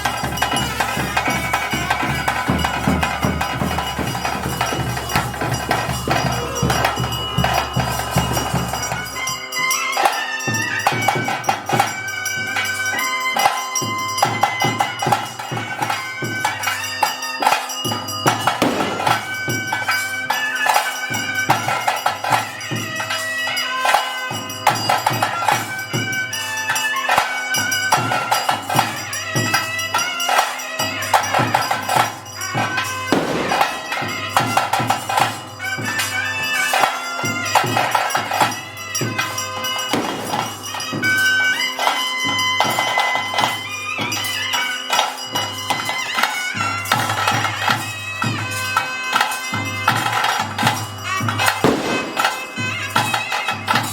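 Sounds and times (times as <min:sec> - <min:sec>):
cymbals: 0:00.0 - 0:53.9
drums: 0:00.0 - 0:53.9
reed wind instrument: 0:00.0 - 0:53.9.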